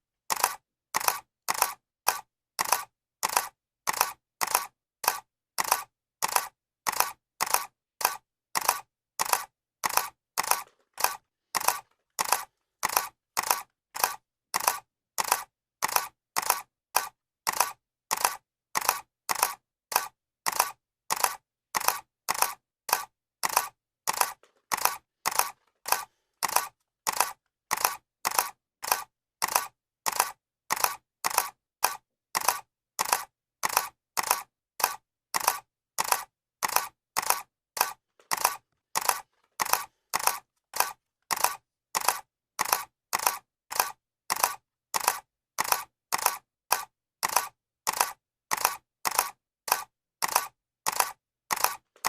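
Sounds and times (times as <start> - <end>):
camera shutter clicking: 0.3 - 52.0.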